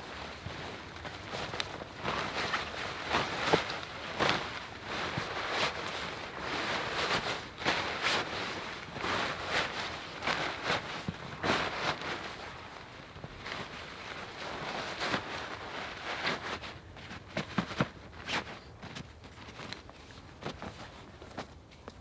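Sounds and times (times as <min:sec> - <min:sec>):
crackles: 0:00.0 - 0:22.0
tarp rustling: 0:00.0 - 0:22.0.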